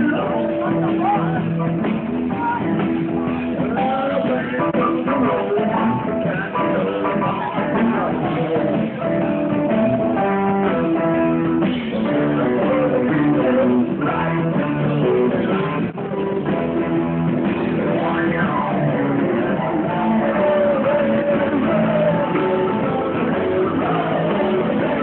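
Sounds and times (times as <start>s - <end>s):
blues-rock band with guitar: 0.0s - 25.0s.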